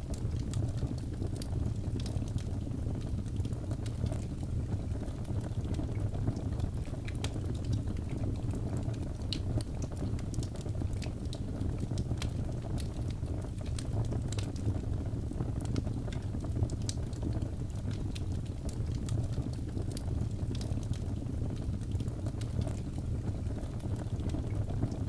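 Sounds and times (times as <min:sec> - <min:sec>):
fire pops and snaps: 0:00.0 - 0:25.0
low rumble of burning: 0:00.0 - 0:25.0.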